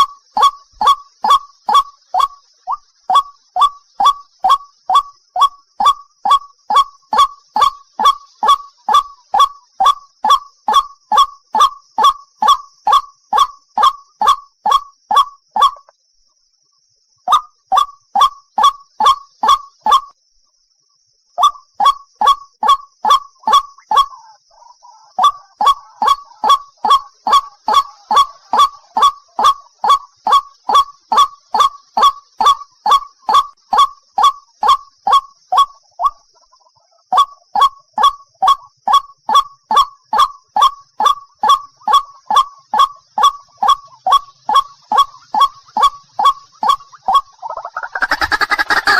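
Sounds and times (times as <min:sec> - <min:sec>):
waterhen calling: 0:00.0 - 0:15.9, 0:21.4 - 0:48.9.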